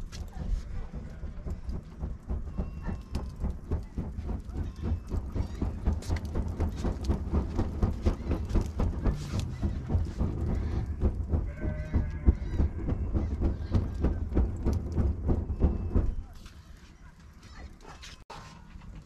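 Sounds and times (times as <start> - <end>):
plate fanning whooshes: 0.0 - 16.2.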